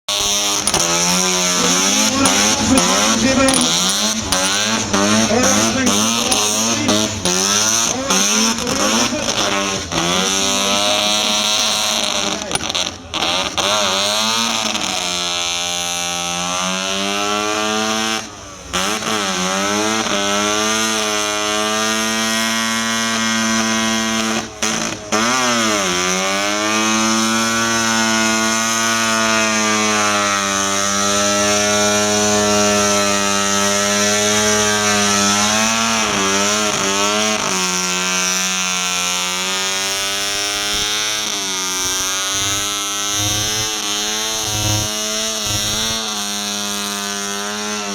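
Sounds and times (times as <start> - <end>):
rotary engine revving: 0.0 - 47.9.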